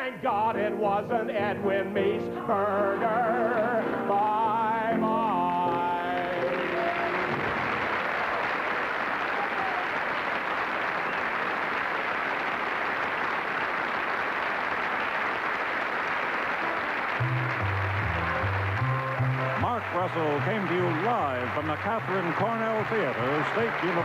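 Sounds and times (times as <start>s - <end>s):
audience applauding: 2.6s - 24.0s.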